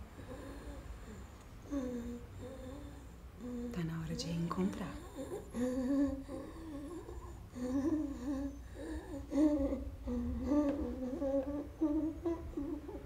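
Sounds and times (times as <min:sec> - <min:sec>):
woman humming a lullaby: 0:00.0 - 0:13.0.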